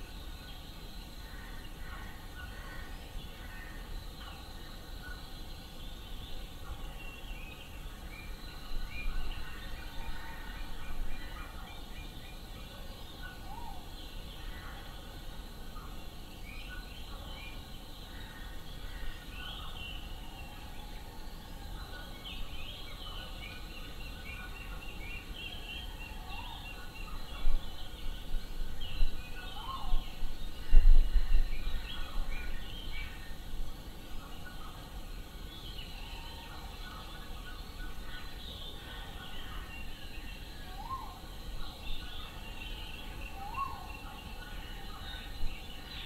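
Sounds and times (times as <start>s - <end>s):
birds chirping and trilling: 0.0s - 46.0s
low background noise: 0.0s - 46.0s.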